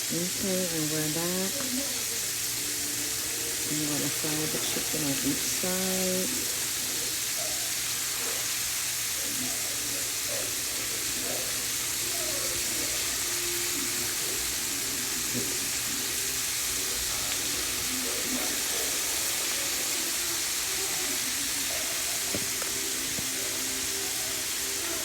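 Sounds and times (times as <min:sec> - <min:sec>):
chicken wings sizzling in hot oil: 0:00.0 - 0:25.0.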